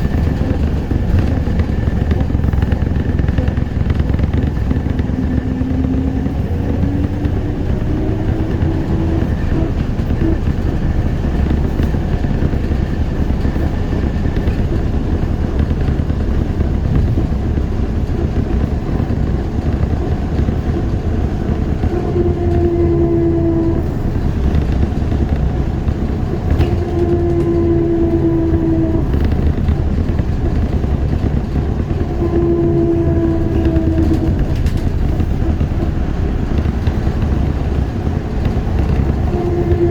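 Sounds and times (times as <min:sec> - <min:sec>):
electric traction motor whining: 0:00.0 - 0:39.9
rumble of wheels and running gear: 0:00.0 - 0:39.9.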